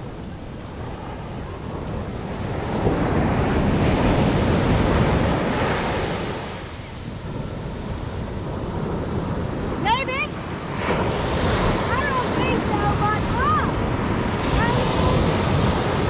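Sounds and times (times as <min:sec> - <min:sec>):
wave breaking on beach: 0:00.0 - 0:16.0
wind buffeting microphone: 0:00.0 - 0:16.0.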